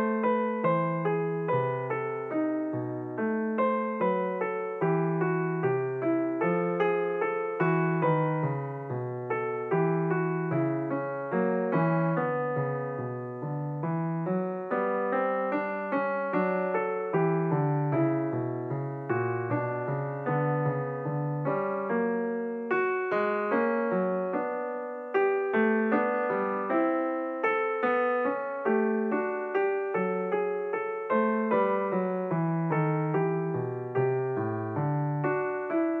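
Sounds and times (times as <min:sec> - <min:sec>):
piano music: 0:00.0 - 0:36.0.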